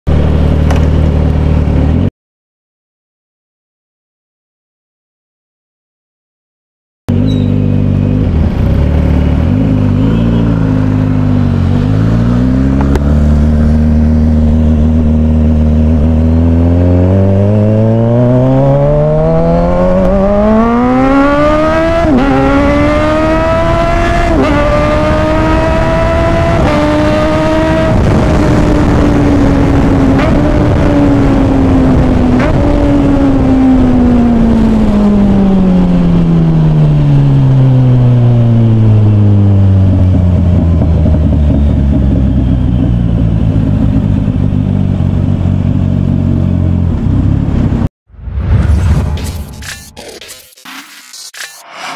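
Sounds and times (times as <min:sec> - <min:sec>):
motorcycle engine accelerating: 0:00.1 - 0:02.1, 0:07.1 - 0:50.0.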